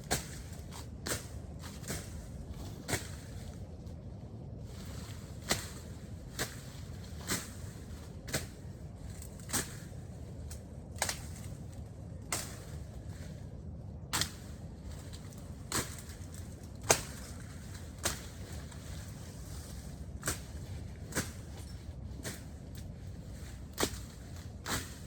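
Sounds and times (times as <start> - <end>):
machete swishing through grass: 0.0 - 3.5, 4.7 - 11.6, 12.4 - 13.4, 14.2 - 25.0.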